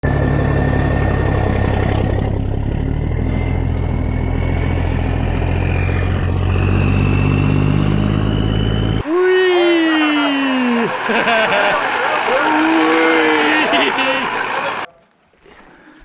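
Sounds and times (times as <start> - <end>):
engine humming: 0.0 - 14.9
high whine rising in pitch: 0.1 - 14.9.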